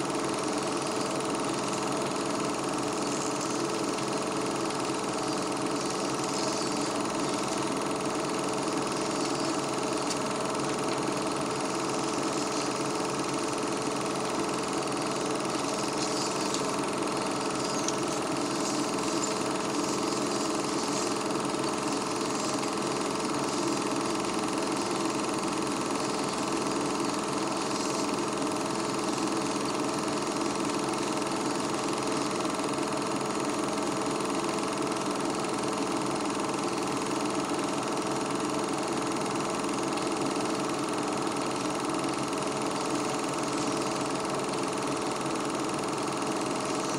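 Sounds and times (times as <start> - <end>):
film projector whirring: 0.0 - 46.9.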